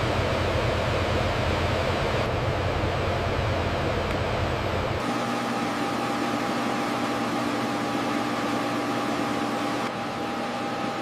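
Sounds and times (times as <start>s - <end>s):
mechanical hum and hiss: 0.0s - 11.0s.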